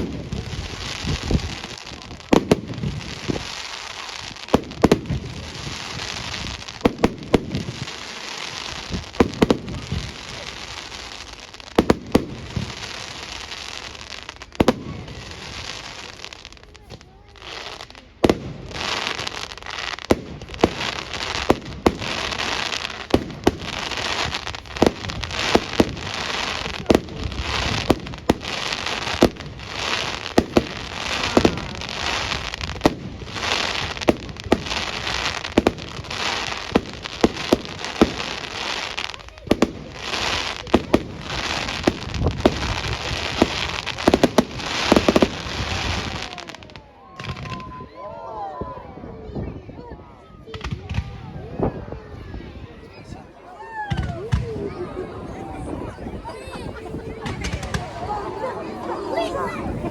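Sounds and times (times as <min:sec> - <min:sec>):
fireworks bangs: 0:00.0 - 0:48.0, 0:48.6 - 0:59.9
fireworks crackling and hissing: 0:00.0 - 0:59.9.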